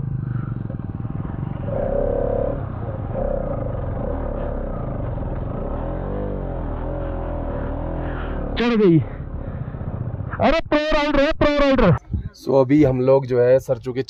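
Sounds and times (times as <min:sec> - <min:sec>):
motorcycle engine running at low speed: 0:00.0 - 0:12.4.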